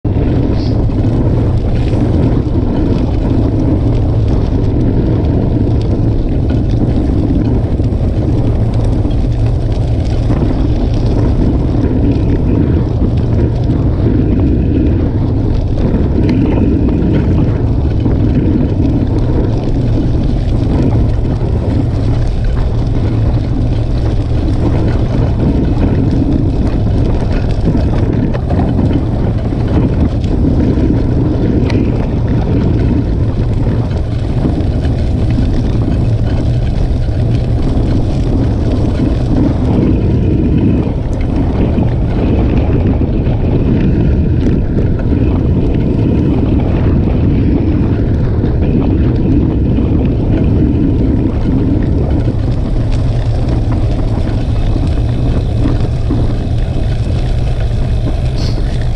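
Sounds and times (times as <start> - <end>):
wind rushing over microphone: 0.0 - 58.9
tyres crunching over wet gravel: 0.1 - 58.9.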